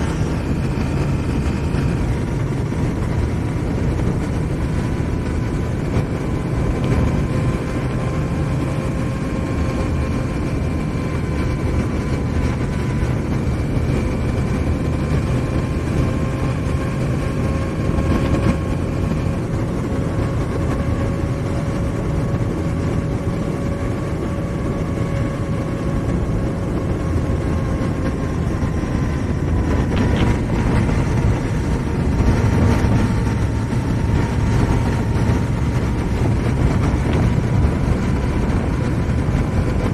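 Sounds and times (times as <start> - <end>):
faint steady whine: 0.0 - 39.9
motorcycle engine cruising: 0.0 - 39.9
wind and road noise: 0.0 - 39.9.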